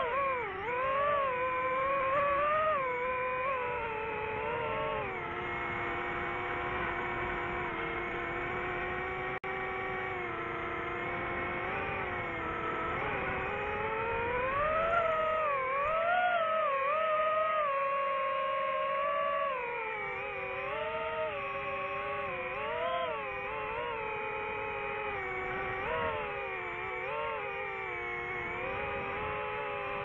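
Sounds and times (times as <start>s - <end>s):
drone motors whining: 0.0s - 30.0s.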